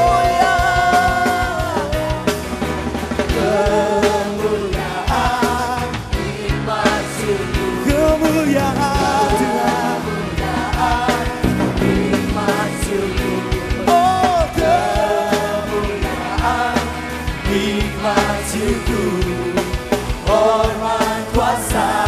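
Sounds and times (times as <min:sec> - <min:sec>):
drum kit beat: 0:00.0 - 0:22.0
voices singing worship music: 0:00.0 - 0:22.0.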